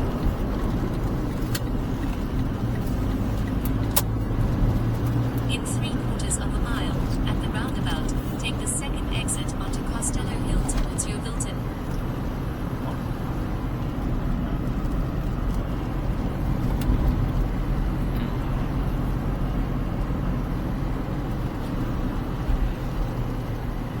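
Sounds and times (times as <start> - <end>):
car engine rumble: 0.0 - 24.0
road noise: 0.0 - 24.0.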